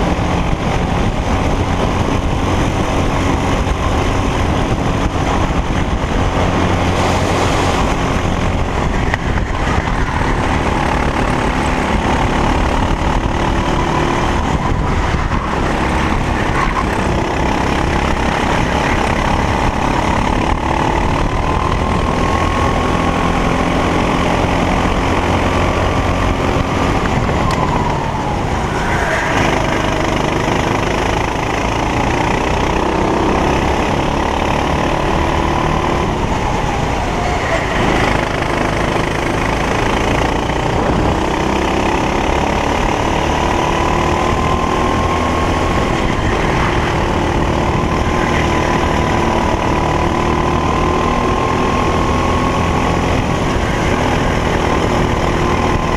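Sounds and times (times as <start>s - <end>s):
go-kart engine revving: 0.0s - 55.9s.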